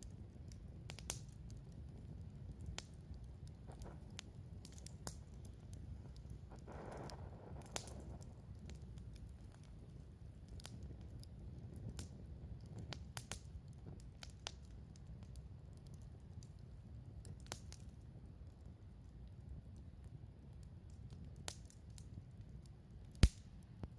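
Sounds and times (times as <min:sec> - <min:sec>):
campfire crackling and popping: 0:00.0 - 0:23.9.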